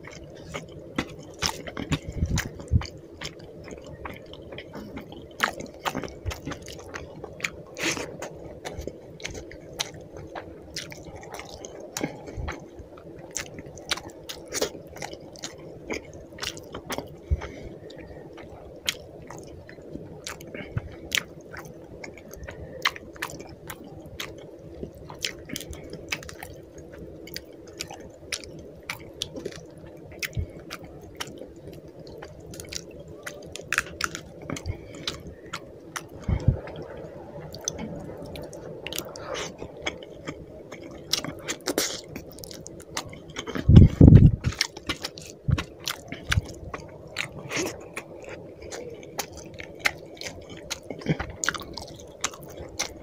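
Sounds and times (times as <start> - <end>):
chewing with wet mouth clicks: 0.0 - 53.0.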